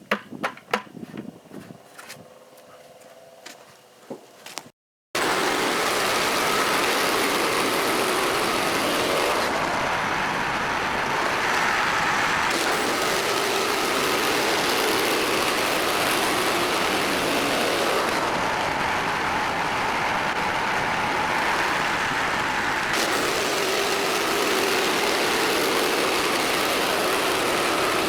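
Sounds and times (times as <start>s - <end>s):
bandsaw mill cutting a log: 5.2s - 28.0s
gasoline engine running: 5.2s - 28.0s.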